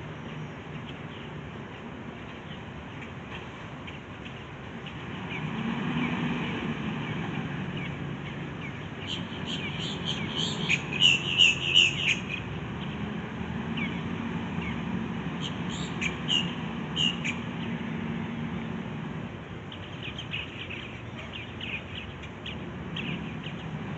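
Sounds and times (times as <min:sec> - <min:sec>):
birds chirping: 0:00.0 - 0:23.9
low engine hum: 0:00.0 - 0:23.9.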